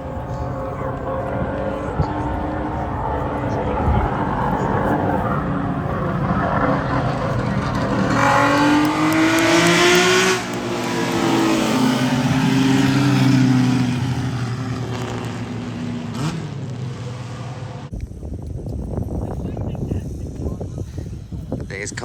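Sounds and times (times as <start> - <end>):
racing car engine passing by: 0.0 - 17.9.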